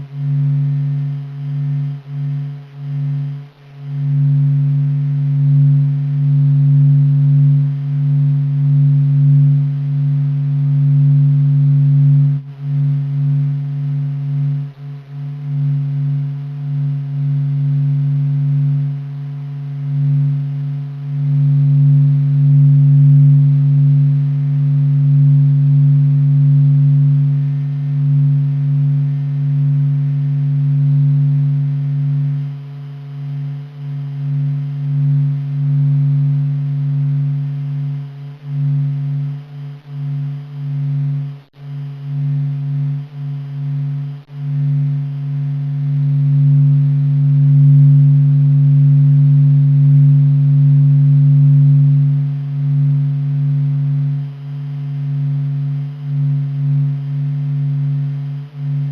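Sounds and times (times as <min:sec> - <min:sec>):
steady low drone: 0:00.0 - 0:58.9.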